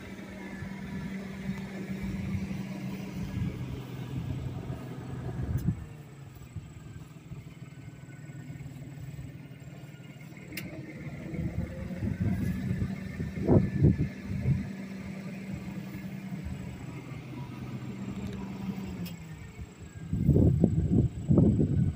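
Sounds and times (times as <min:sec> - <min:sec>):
engine hum: 0:00.0 - 0:21.9.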